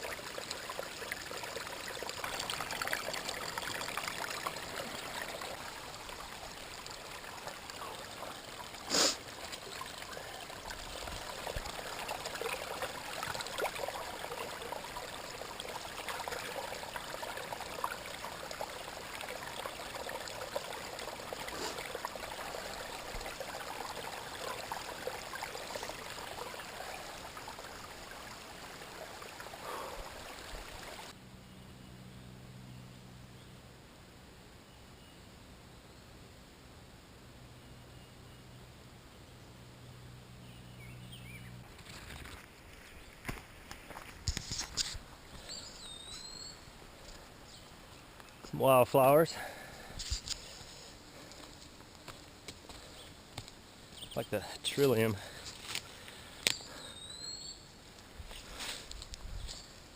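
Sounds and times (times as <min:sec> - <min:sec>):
stream trickling and splashing: 0:00.0 - 0:31.2, 0:40.1 - 0:59.9.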